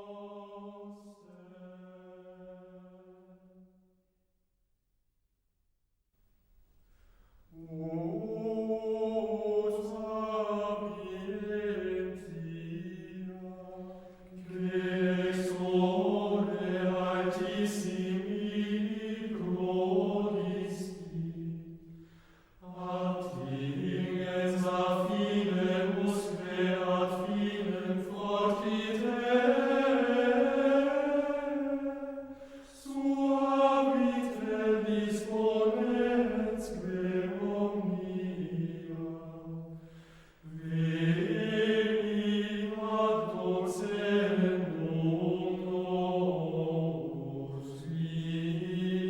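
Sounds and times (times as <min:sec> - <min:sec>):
choir singing in harmony: 0:00.0 - 0:03.6, 0:07.6 - 0:22.0, 0:22.6 - 0:49.0.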